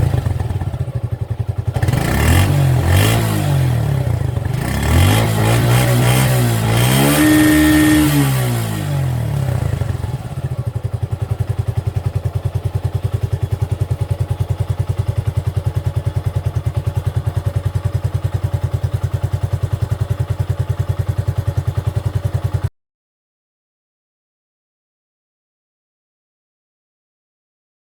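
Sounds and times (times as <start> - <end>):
motorcycle engine revving and idling: 0.0 - 22.7.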